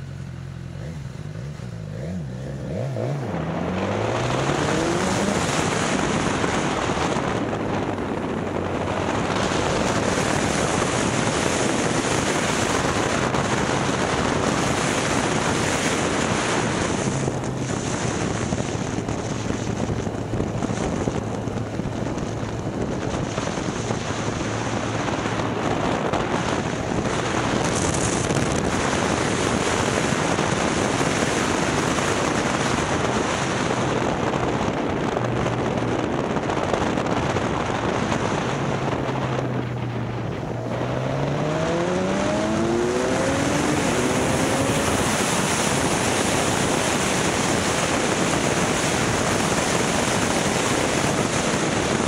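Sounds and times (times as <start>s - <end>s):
faint motorcycle engine: 0.0s - 52.0s
wind rushing over microphone: 0.0s - 52.0s.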